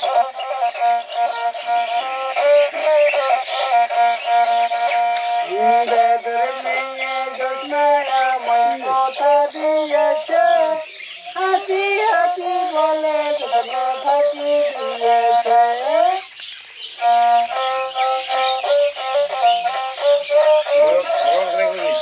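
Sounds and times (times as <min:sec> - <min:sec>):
bowed fiddle melody: 0:00.0 - 0:22.0.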